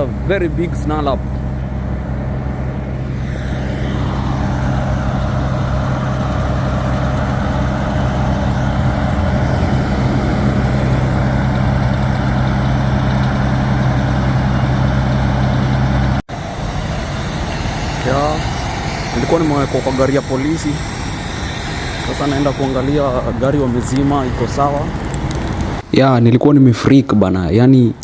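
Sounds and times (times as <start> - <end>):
vehicle engine idling: 0.0 - 25.8.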